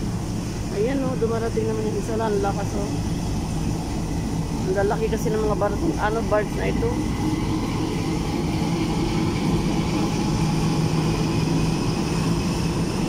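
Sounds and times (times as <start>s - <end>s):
boat diesel engine humming: 0.0s - 13.0s
propeller wash churning: 0.0s - 13.0s.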